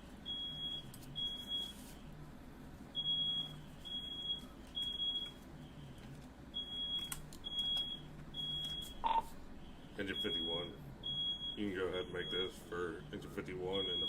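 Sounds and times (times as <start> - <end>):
smoke alarm beeping: 0.2 - 1.8, 3.0 - 5.9, 6.6 - 14.0.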